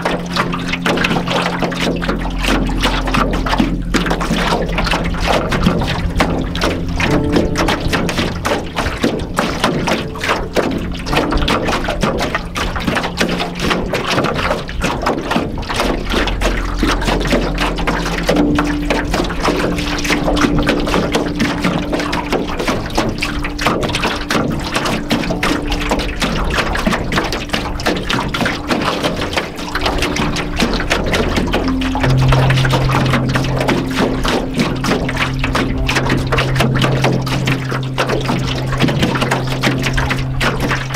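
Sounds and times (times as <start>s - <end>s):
ambient music tones: 0.0s - 40.9s
waves splashing against canoe hull: 0.0s - 40.9s.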